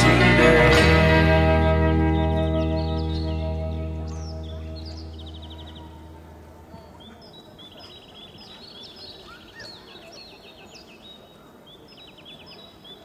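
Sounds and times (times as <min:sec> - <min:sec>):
low noisy background: 0:00.0 - 0:13.0
small birds chirping and trilling: 0:01.1 - 0:13.0.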